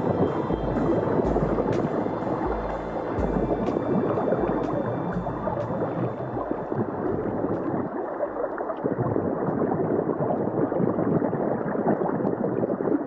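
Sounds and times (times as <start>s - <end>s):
underwater bubbling of exhaled air: 0.0s - 13.0s.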